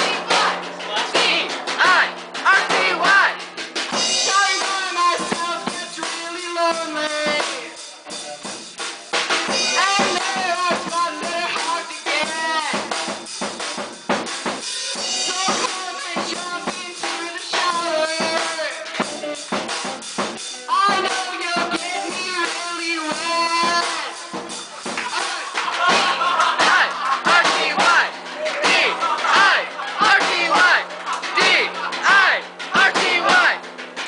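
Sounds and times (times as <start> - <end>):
drum kit: 0.0 - 34.0.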